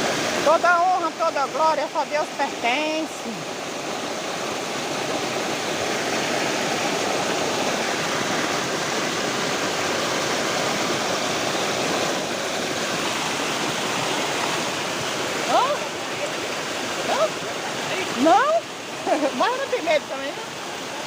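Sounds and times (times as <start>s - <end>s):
heavy rain: 0.0s - 21.0s
rushing rainwater: 0.0s - 21.0s.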